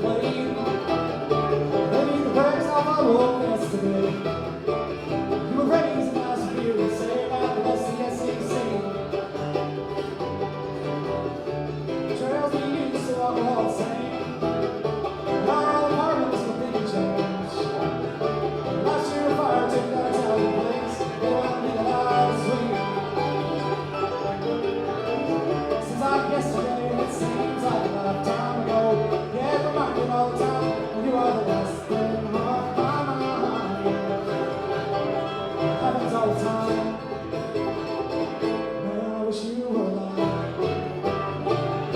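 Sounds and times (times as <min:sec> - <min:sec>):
banjo picking: 0:00.0 - 0:41.9
bass line: 0:00.0 - 0:41.9
bluegrass band playing: 0:00.0 - 0:41.9.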